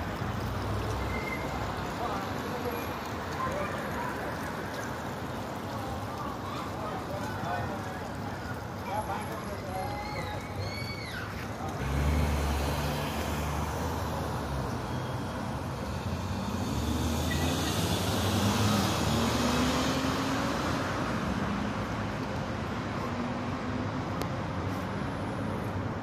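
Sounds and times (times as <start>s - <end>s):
passing car traffic: 0.0s - 26.0s.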